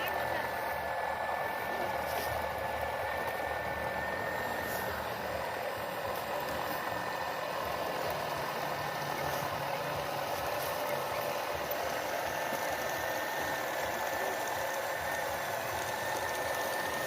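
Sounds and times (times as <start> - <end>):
small motor whining and humming: 0.0 - 17.0.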